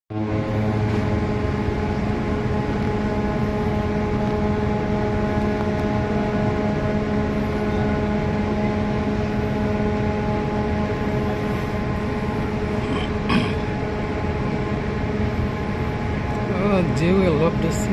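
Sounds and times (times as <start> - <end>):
ship machinery drone: 0.1 - 17.9.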